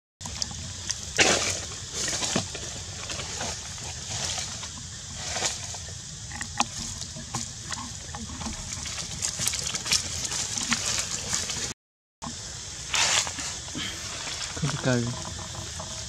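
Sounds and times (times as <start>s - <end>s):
steady outdoor hiss: 0.2s - 16.0s
dry leaves rustling and crackling: 0.3s - 11.8s, 12.8s - 16.0s.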